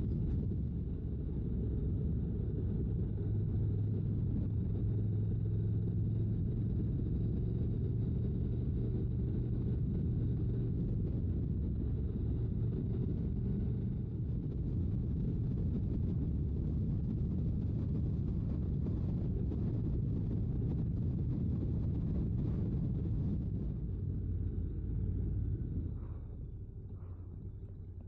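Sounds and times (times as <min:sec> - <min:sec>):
motorcycle engine drone: 0:00.0 - 0:28.0
wind rush on microphone: 0:00.0 - 0:28.0.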